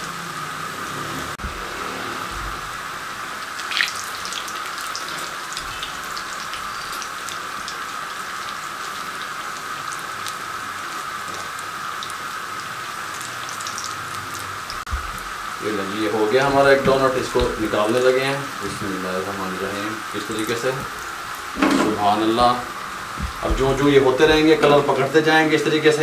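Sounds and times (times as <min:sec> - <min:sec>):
food sizzling in hot oil: 0:01.4 - 0:26.0.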